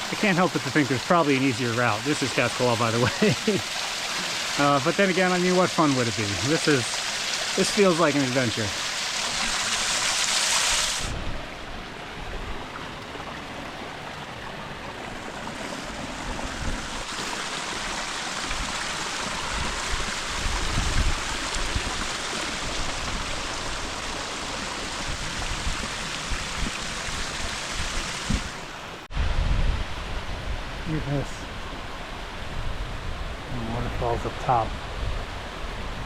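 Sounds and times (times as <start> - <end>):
creek water rushing: 0.0 - 36.0.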